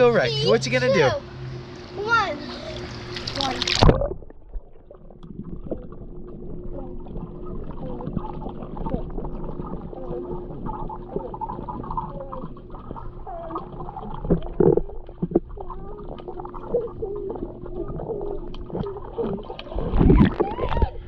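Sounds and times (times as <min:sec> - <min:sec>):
steady low hum: 0:00.0 - 0:21.0
underwater gurgling: 0:02.8 - 0:21.0.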